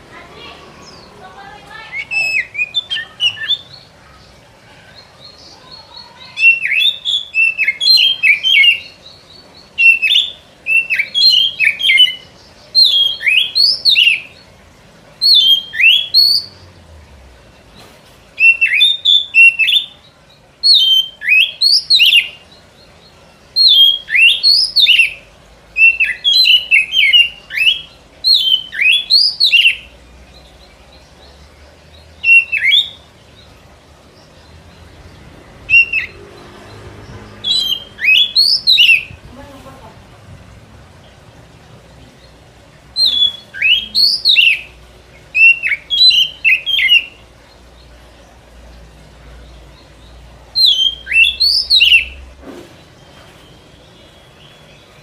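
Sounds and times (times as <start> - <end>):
songbird whistling song: 1.7 - 14.5, 15.2 - 16.7, 18.3 - 33.5, 34.2 - 36.5, 37.3 - 39.3, 42.9 - 47.8, 49.5 - 55.0.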